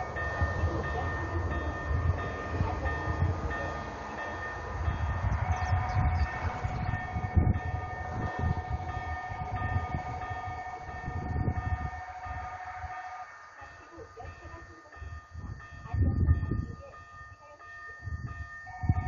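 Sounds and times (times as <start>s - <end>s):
level-crossing warning bell: 0.0s - 19.0s.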